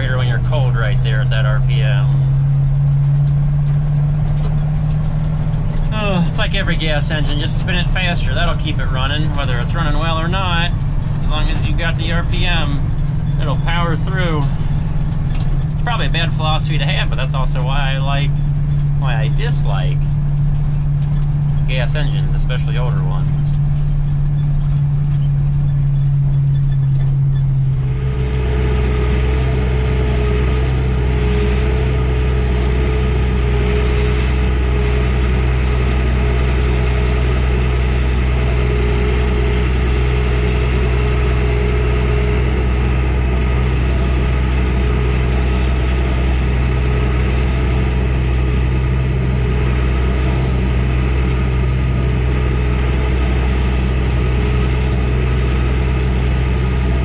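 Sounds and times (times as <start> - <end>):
truck engine running under load: 0.0 - 57.0.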